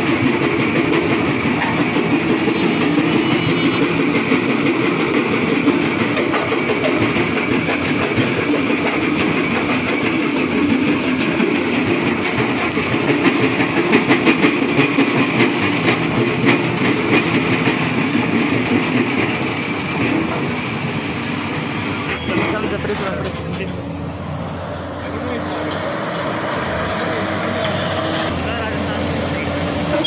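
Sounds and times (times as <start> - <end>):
excavator running under load: 0.0 - 30.0.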